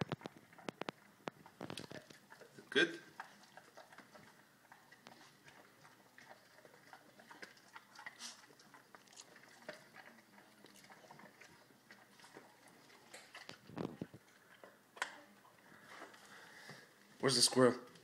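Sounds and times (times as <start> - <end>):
dog chewing crunches: 0.0 - 16.2.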